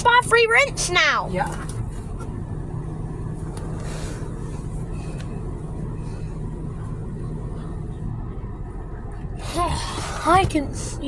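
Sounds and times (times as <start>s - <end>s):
car wash low rumble: 0.0s - 11.0s.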